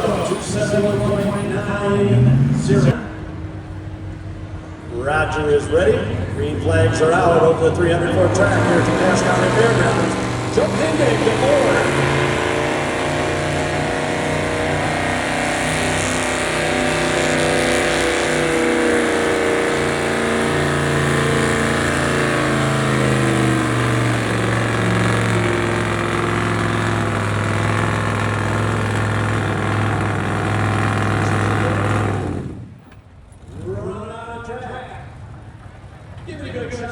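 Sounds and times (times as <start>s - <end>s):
truck engine at full throttle: 0.0s - 34.1s.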